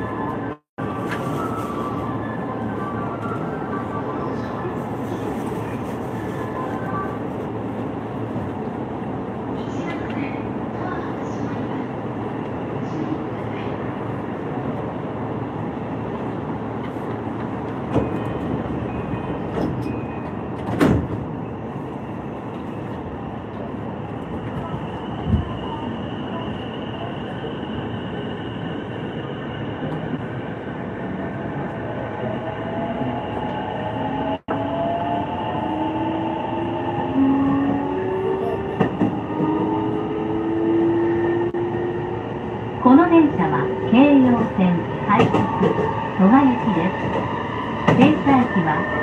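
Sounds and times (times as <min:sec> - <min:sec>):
train wheels rumbling on rail: 0:04.2 - 0:49.0.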